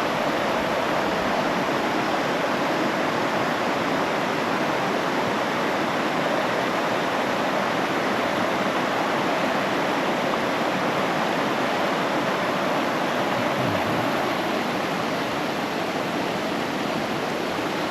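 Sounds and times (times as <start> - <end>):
flowing water rushing: 0.0 - 17.9.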